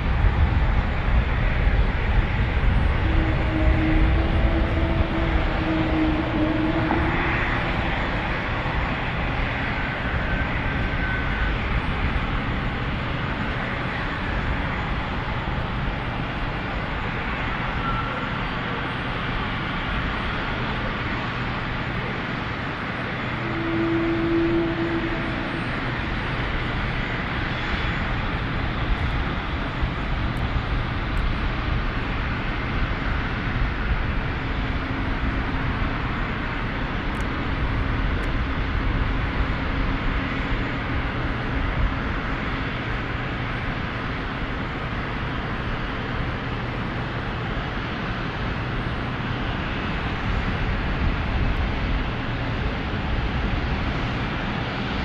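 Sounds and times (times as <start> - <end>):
airliner engines running: 0.0 - 55.0
faint steady whines: 0.0 - 55.0.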